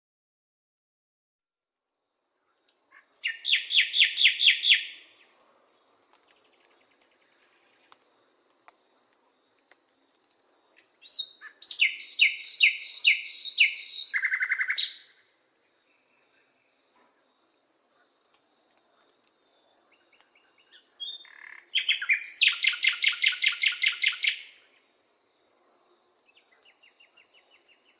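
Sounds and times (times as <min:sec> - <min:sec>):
songbird singing: 0:02.0 - 0:27.9.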